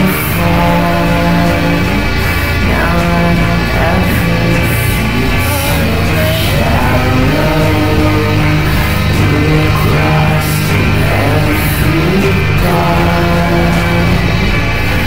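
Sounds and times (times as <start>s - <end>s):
band music with singing: 0.0s - 15.0s
cymbal-like hits: 0.0s - 15.0s.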